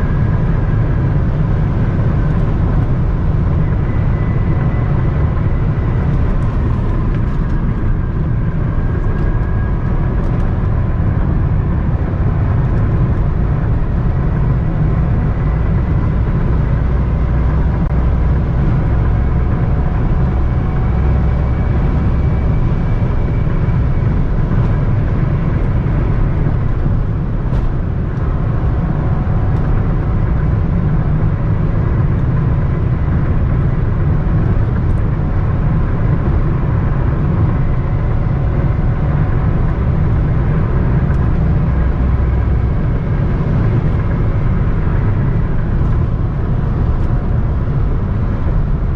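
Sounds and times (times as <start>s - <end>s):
car cabin low rumble: 0.0s - 48.9s.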